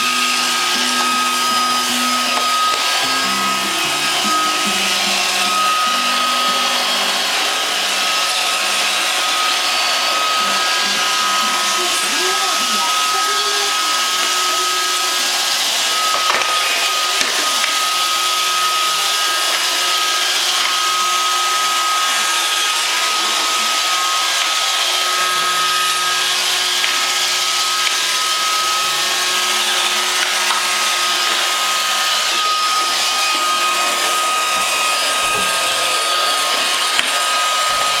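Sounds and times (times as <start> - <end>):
robot vacuum whirring: 0.0 - 38.0.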